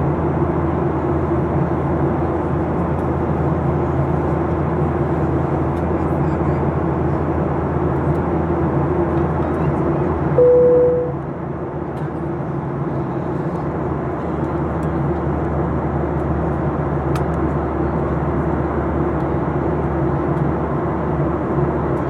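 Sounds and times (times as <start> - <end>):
jet engines droning hum: 0.0 - 22.0.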